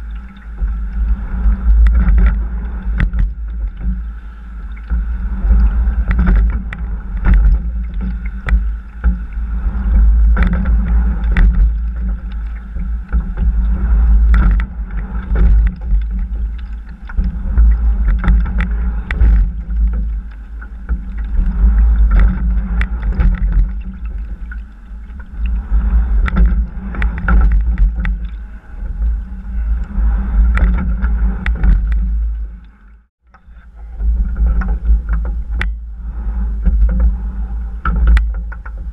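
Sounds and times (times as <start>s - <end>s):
wind buffeting microphone: 0.0s - 32.7s
sharp knocks of rowing strokes: 0.0s - 38.9s
water rushing along hull: 0.0s - 38.9s.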